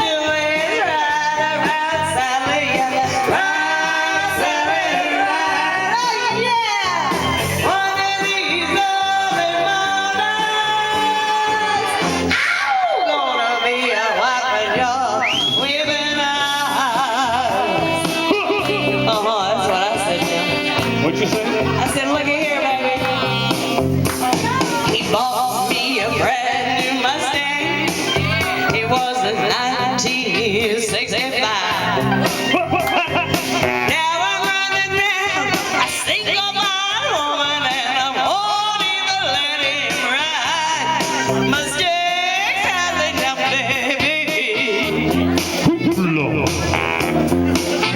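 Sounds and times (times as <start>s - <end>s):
person singing with vibrato: 0.0s - 47.2s
musical accompaniment: 0.0s - 47.9s.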